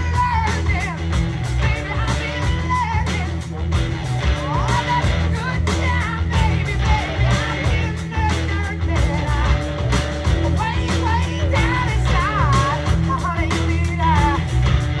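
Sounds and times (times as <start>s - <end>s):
person singing: 0.0s - 3.5s, 4.2s - 14.6s
heavy bass: 0.0s - 15.0s
steady drumbeat: 0.0s - 15.0s.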